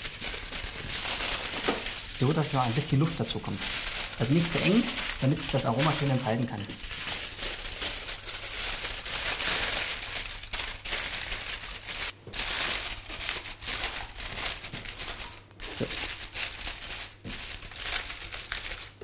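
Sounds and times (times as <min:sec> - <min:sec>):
foil crinkling: 0:00.0 - 0:19.0.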